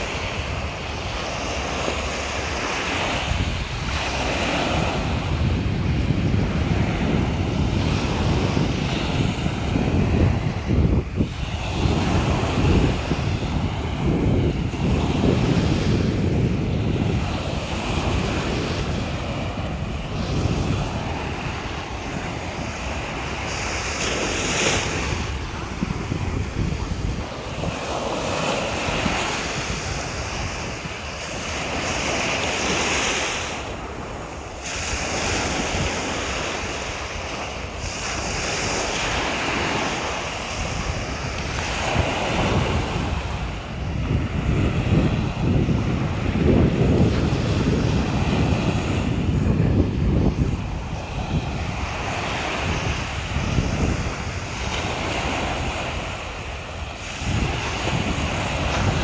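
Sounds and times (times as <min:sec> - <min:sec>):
waves washing up a beach: 0:00.0 - 0:59.0
wind buffeting the microphone: 0:00.0 - 0:59.0.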